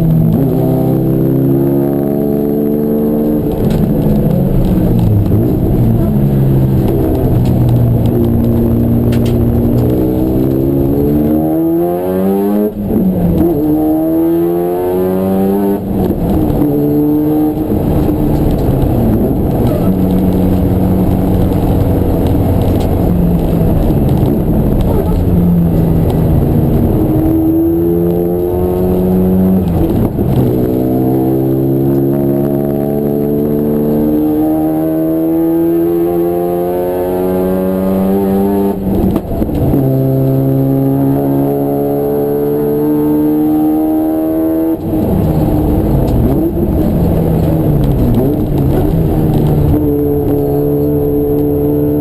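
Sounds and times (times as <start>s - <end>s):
race car engine revving: 0.0s - 52.0s.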